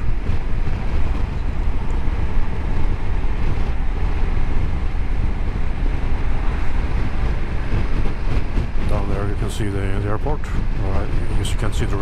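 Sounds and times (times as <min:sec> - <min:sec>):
engine and road noise rumble: 0:00.0 - 0:12.0
wind rushing over microphone: 0:00.0 - 0:12.0.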